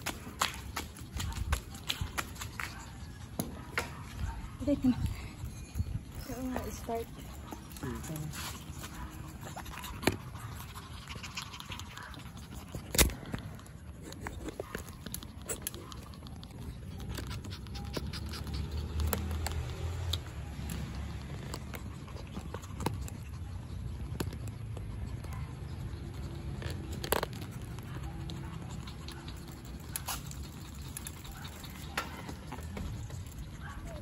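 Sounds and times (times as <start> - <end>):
rumble of wind and tyres: 0.0 - 10.5, 16.6 - 34.0.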